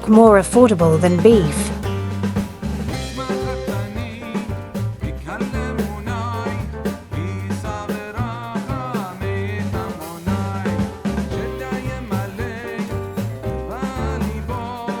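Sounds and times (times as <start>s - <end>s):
background music with drums and bass: 0.0s - 15.0s.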